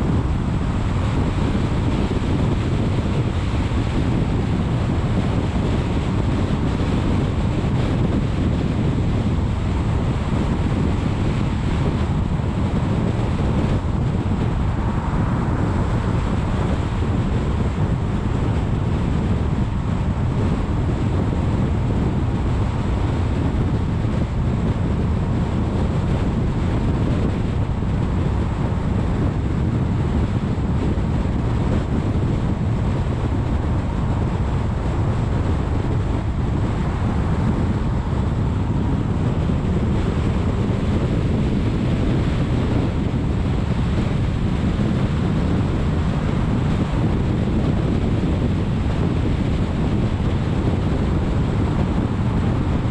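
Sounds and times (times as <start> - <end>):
car wind and road noise: 0.0 - 52.9.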